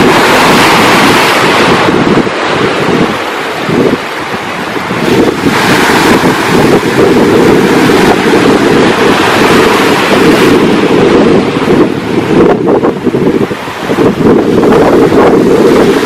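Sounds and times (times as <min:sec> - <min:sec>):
ocean surf rushing: 0:00.0 - 0:16.0
wind buffeting microphone: 0:00.0 - 0:16.0.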